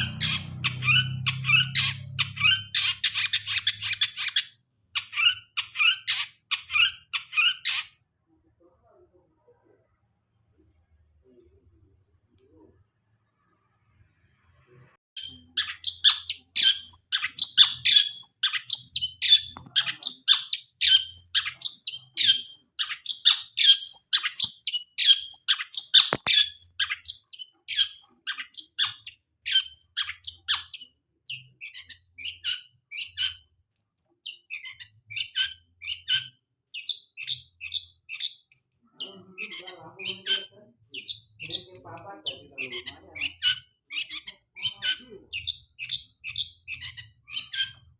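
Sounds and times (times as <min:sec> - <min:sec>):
bird sharp chirping song: 0:00.0 - 0:08.0, 0:15.2 - 0:47.9.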